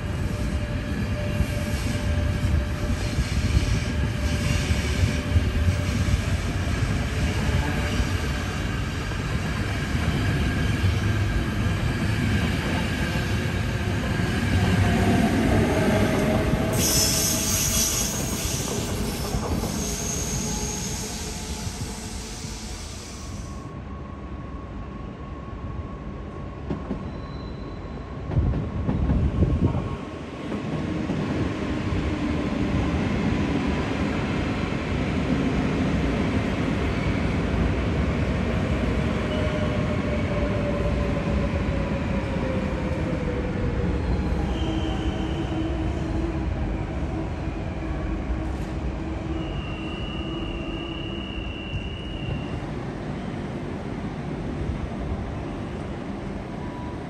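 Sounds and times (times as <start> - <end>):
train rumbling through station: 0.0 - 57.0.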